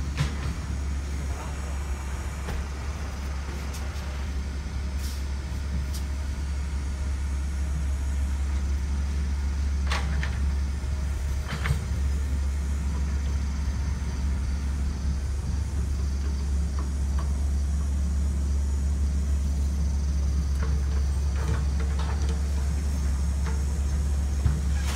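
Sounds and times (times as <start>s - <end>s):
diesel engine rumbling: 0.0s - 24.9s.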